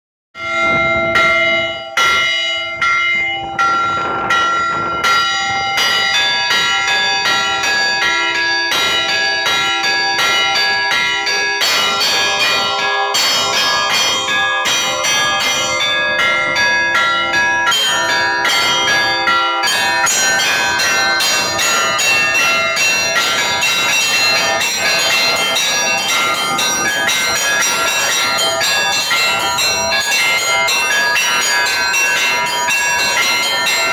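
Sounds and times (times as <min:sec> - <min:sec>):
church bells pealing: 0:00.4 - 0:33.9.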